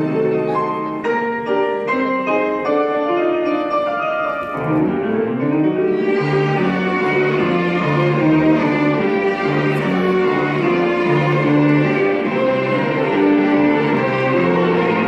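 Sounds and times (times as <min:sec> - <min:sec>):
classical piano passage: 0:00.0 - 0:15.0
violin ensemble bowing: 0:00.0 - 0:15.0.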